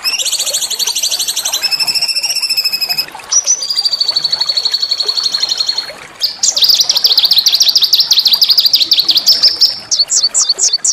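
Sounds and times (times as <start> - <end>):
songbird trilling: 0.0 - 10.9.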